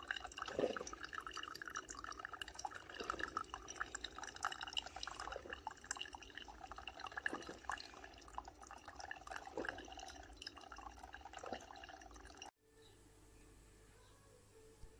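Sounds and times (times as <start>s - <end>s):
coffee maker spluttering and dripping: 0.0s - 12.5s.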